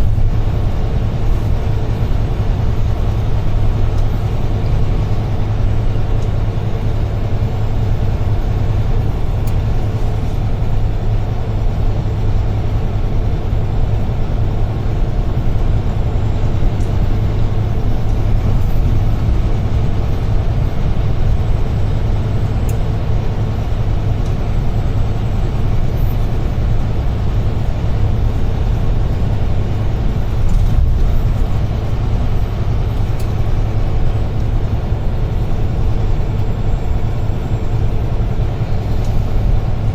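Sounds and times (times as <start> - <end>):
diesel truck engine hum: 0.0 - 39.9
road and tyre rumble: 0.0 - 39.9.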